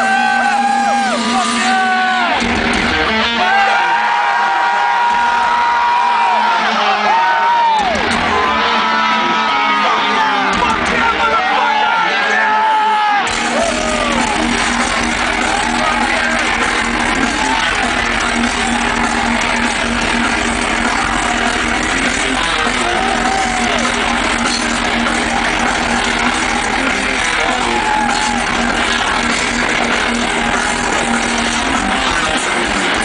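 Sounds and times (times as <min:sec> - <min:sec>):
distorted rock music: 0:00.0 - 0:33.0.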